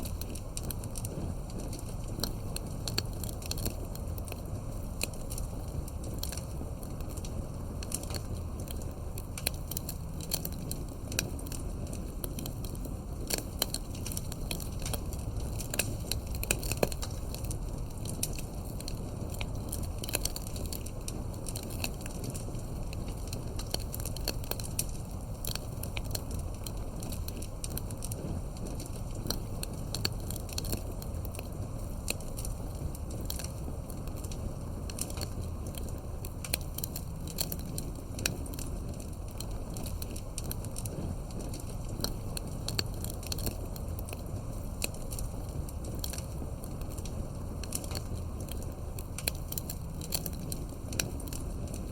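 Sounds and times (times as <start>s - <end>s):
low rumble of flames: 0.0s - 51.9s
wood crackling and popping: 0.0s - 51.9s.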